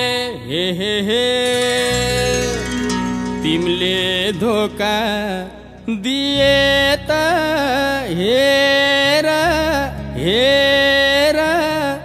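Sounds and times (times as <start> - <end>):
low musical backing: 0.4 - 12.0
folk song held melody: 0.9 - 12.0.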